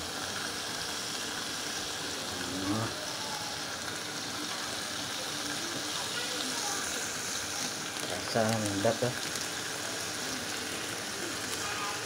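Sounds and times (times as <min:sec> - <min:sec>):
sambal sizzling in a wok: 0:00.0 - 0:12.0.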